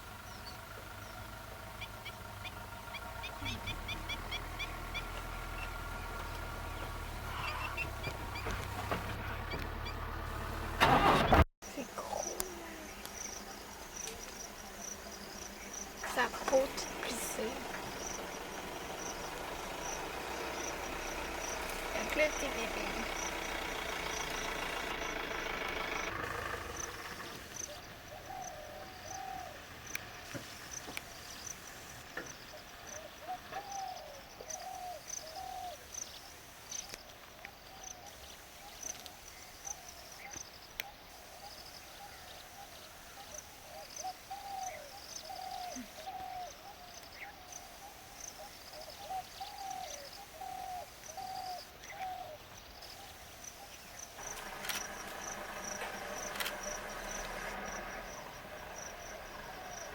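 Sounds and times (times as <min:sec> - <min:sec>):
insects chirping: 0:00.0 - 0:08.8, 0:11.6 - 0:59.9.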